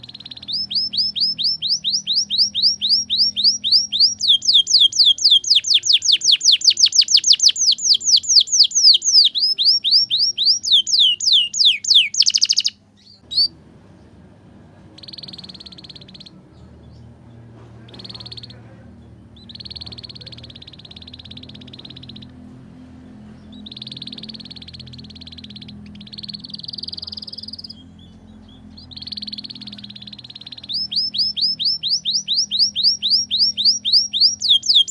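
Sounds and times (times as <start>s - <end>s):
canary singing sweeping notes: 0.0s - 13.5s, 15.0s - 17.0s, 19.4s - 22.5s, 23.3s - 34.9s.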